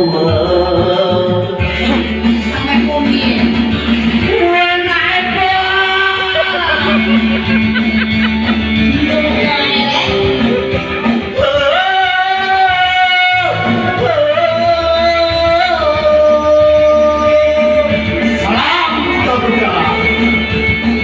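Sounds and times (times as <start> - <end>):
backing track with guitar: 0.0 - 21.0
person singing a ballad: 0.0 - 21.0.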